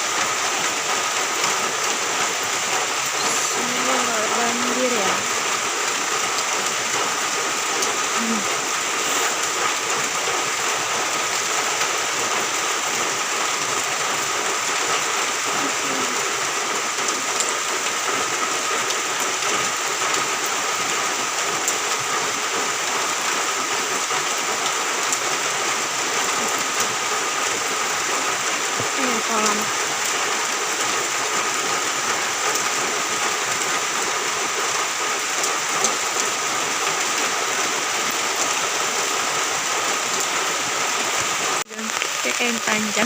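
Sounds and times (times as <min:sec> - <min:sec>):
rain pattering on surfaces: 0:00.0 - 0:43.0.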